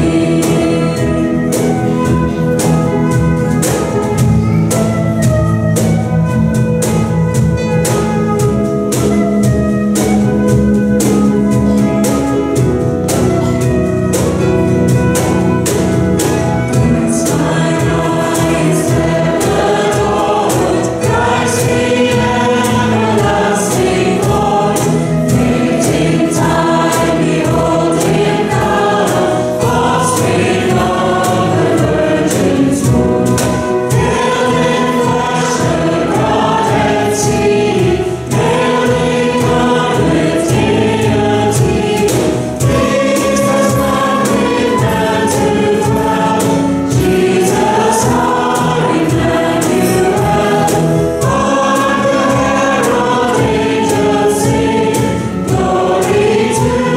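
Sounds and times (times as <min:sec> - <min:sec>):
group singing a hymn: 0:00.0 - 0:04.2, 0:06.8 - 0:56.9
band with drums and cymbals: 0:00.0 - 0:56.9.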